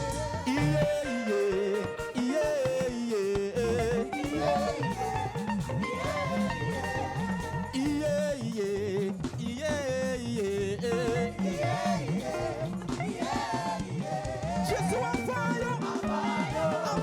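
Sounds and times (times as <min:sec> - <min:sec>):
live gospel band playing: 0:00.0 - 0:17.0.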